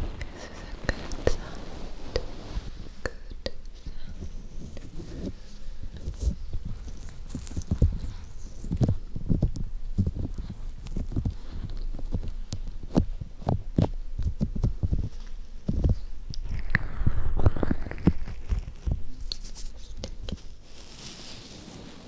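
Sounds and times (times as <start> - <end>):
hands rubbing microphone cover: 0.0 - 22.0.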